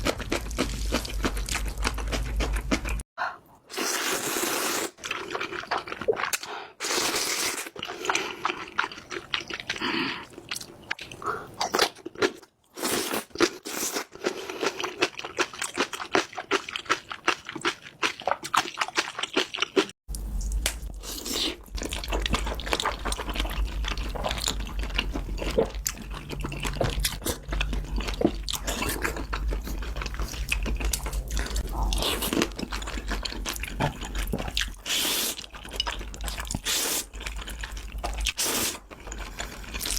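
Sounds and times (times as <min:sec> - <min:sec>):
wet chewing and crunching: 0:00.0 - 0:03.0, 0:03.8 - 0:39.9.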